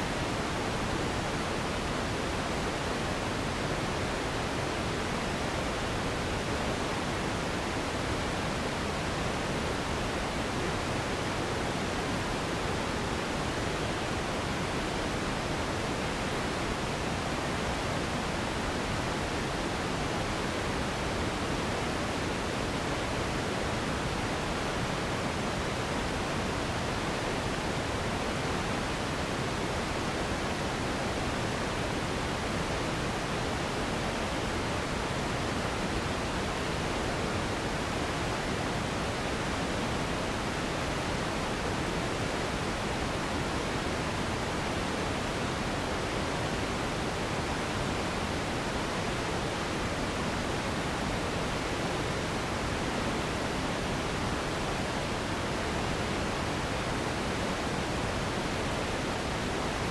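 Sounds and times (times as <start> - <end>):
steady low-heavy hiss: 0.0 - 59.9.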